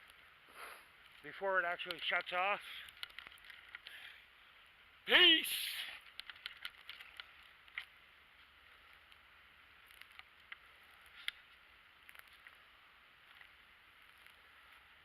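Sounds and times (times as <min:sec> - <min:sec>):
faint ticks and crackles: 0:00.0 - 0:15.0.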